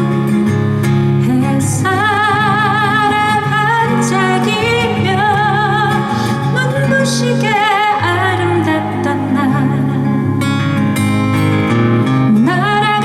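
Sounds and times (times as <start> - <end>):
woman singing a slow ballad: 0.0 - 11.0, 12.2 - 13.0
acoustic guitar: 0.0 - 13.0.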